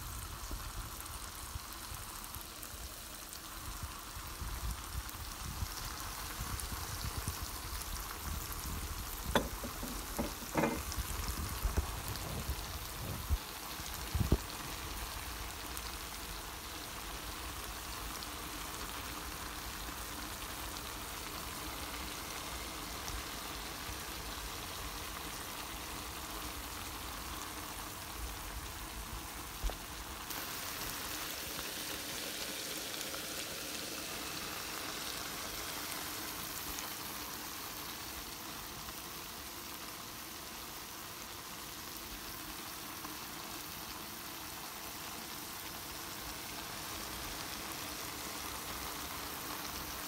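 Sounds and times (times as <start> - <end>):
food sizzling in a frying pan: 0.0 - 50.0.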